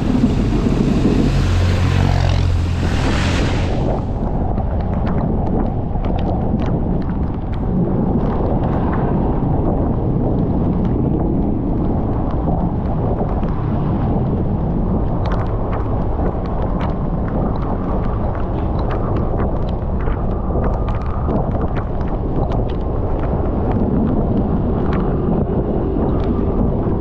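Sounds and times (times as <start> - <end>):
motorcycle rumble: 0.0 - 27.0
wind buffeting microphone: 0.0 - 27.0
raindrops ticking: 4.4 - 27.0.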